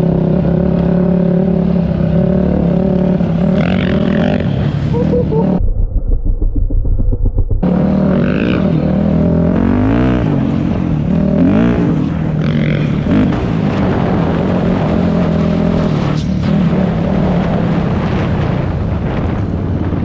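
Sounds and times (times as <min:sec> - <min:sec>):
dirt bike engine revving: 0:00.0 - 0:17.8.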